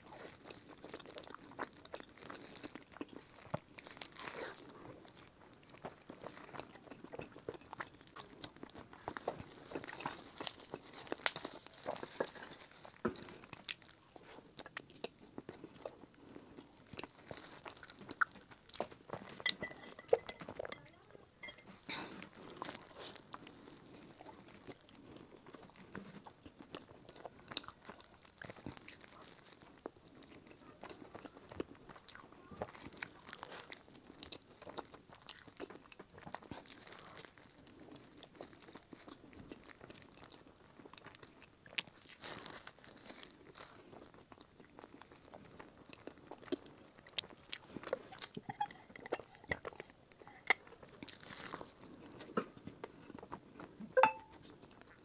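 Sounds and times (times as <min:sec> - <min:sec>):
chewing pastry: 0:00.0 - 0:55.0.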